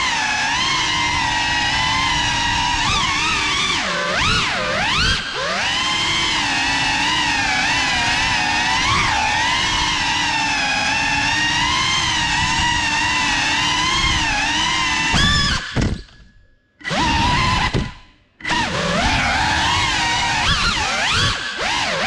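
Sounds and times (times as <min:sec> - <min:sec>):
drone propellers whining: 0:00.0 - 0:16.2, 0:16.8 - 0:22.0.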